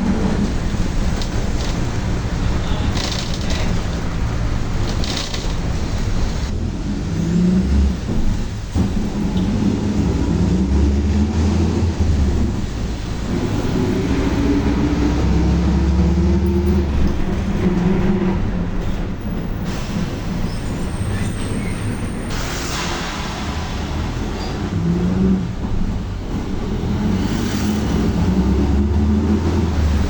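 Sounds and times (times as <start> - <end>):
diesel engine rumble: 0.0 - 30.0.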